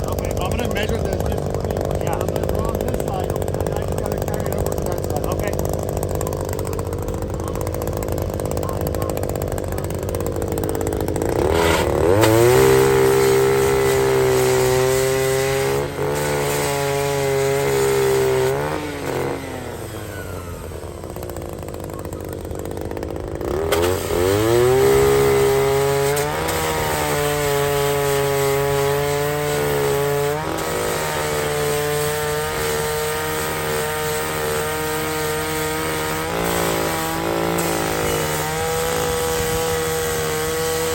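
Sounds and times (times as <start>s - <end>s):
pitched machine whine: 0.0s - 40.9s.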